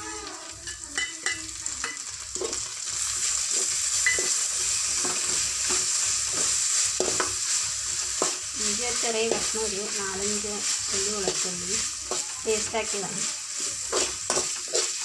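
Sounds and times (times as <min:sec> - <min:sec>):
food sizzling in hot oil: 0:00.0 - 0:15.0
spatula scraping a pan: 0:02.3 - 0:15.0.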